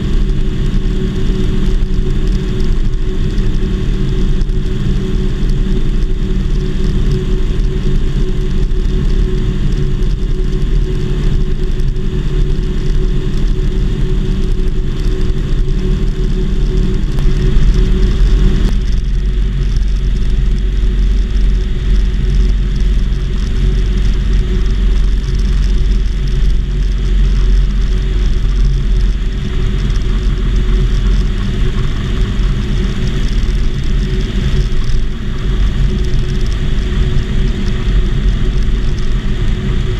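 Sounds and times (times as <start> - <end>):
propeller aircraft engine rumble: 0.0 - 39.9.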